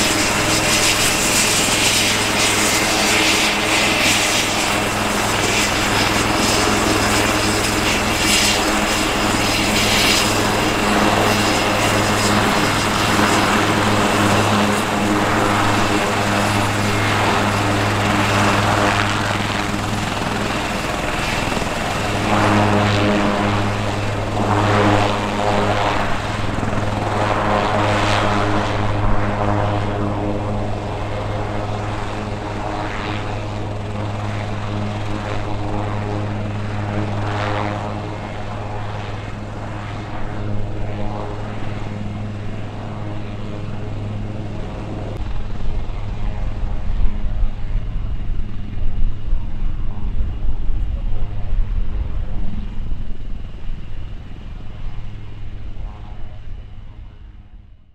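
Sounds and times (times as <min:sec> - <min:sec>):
helicopter low drone: 0:00.0 - 0:57.9
rushing turbine whine: 0:00.0 - 0:57.9.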